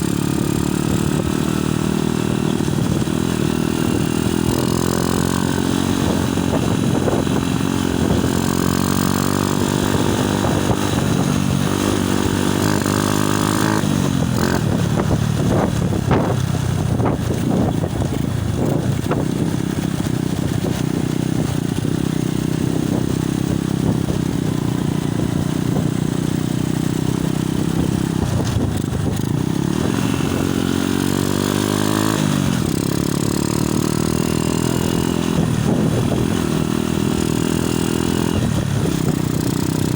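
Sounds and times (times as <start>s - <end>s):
motorcycle engine revving: 0.0s - 39.9s
wind buffeting microphone: 0.1s - 39.9s.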